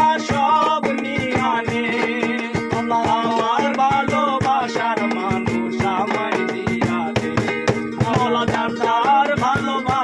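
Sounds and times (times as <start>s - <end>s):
hand drum beating: 0.0s - 10.0s
man singing: 0.0s - 10.0s
ukulele strumming: 0.0s - 10.0s.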